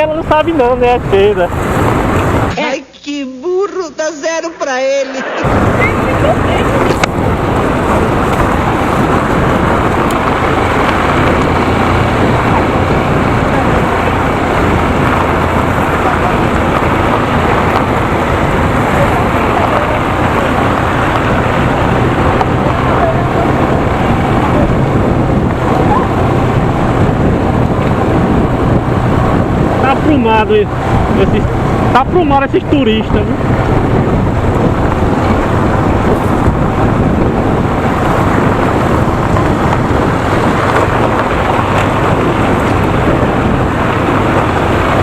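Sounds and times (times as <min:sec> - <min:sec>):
motorcycle engine running: 0:00.0 - 0:02.5, 0:05.4 - 0:45.0
wind rush on microphone: 0:00.0 - 0:02.6, 0:05.4 - 0:45.0.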